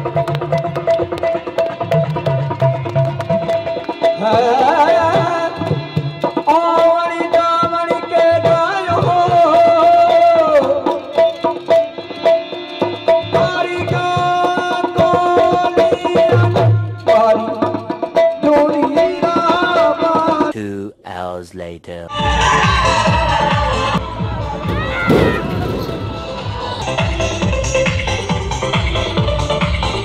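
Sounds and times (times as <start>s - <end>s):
hand-drum beats: 0.0s - 20.6s, 24.0s - 29.8s.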